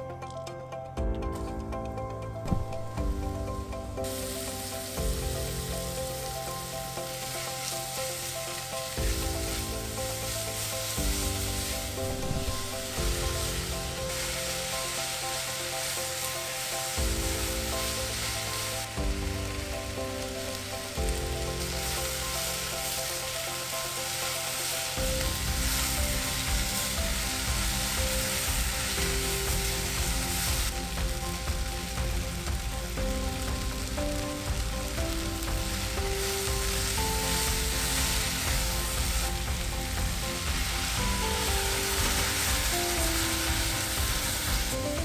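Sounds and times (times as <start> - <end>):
background music: 0.0 - 45.0
food sizzling in a pan: 2.4 - 45.0.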